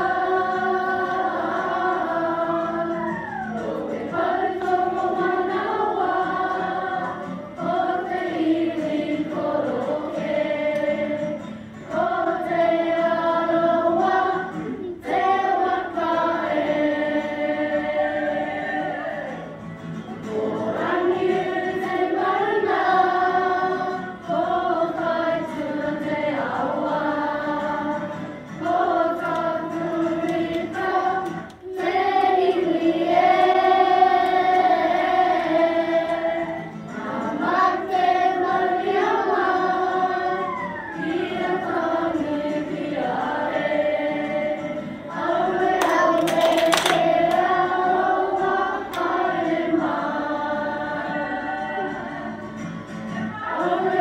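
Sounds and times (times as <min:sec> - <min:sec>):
children singing in unison: 0:00.0 - 0:19.6, 0:20.2 - 0:54.0.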